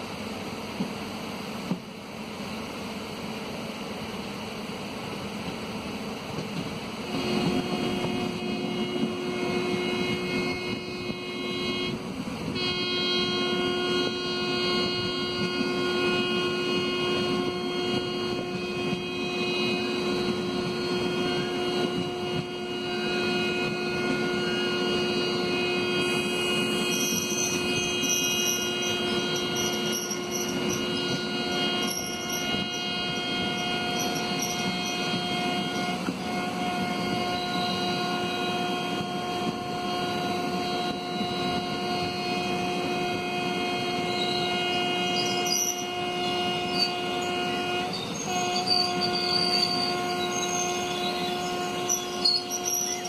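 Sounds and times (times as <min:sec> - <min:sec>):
train wheels rumbling on rail: 0:00.0 - 0:53.0
humming tone: 0:07.1 - 0:53.0.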